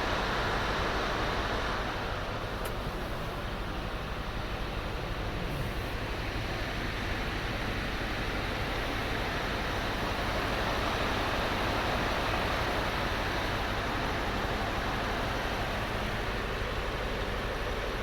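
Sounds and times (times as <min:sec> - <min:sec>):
diesel engine idling: 0:00.4 - 0:18.0.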